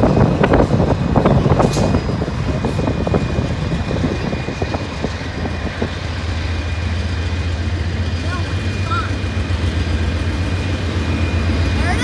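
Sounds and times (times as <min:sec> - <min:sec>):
diesel locomotive drone: 0:00.0 - 0:12.0.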